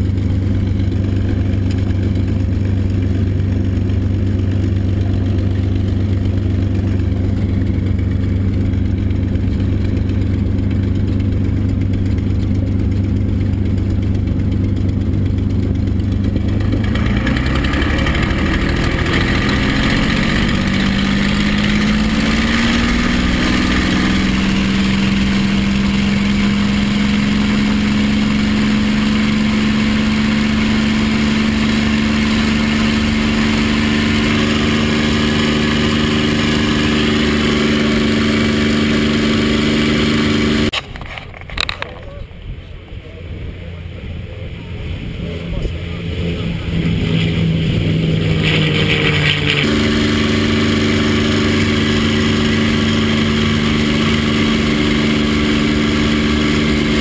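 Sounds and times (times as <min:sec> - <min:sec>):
piston aircraft engine: 0:00.0 - 0:57.0.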